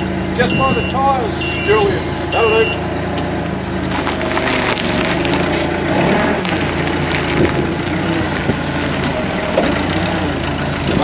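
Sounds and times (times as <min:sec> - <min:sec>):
forklift engine running: 0:00.0 - 0:11.0
tyres crunching on gravel: 0:00.1 - 0:11.0.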